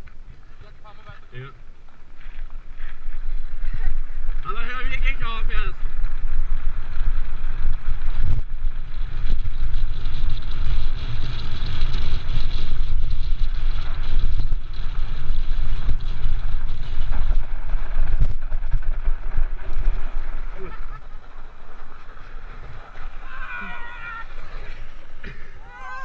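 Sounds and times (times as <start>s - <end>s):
cart wheels rumbling on gravel: 0.0s - 26.0s
wind buffeting microphone: 0.0s - 26.0s.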